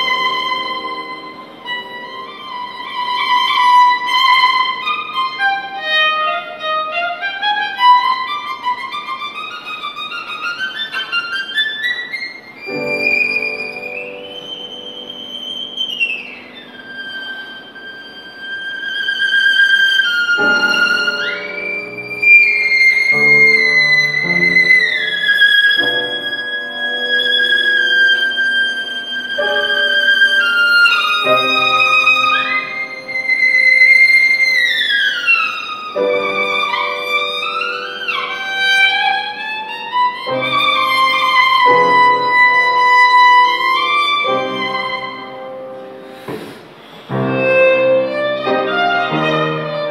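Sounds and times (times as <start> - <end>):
solo violin melody: 0.0 - 49.9.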